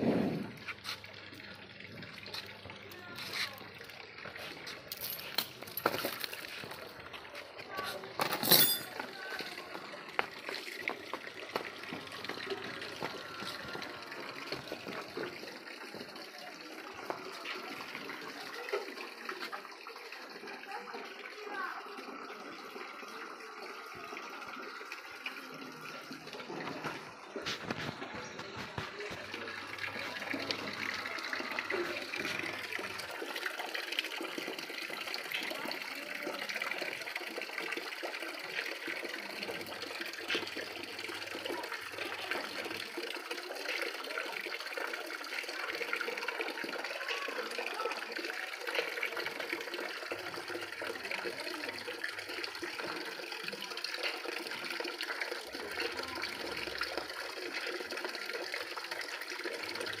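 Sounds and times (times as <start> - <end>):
water splashing into a tub: 9.0 - 60.0.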